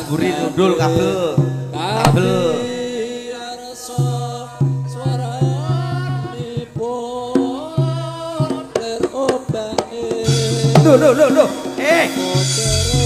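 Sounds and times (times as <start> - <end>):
person singing ornamented melody: 0.0 - 13.0.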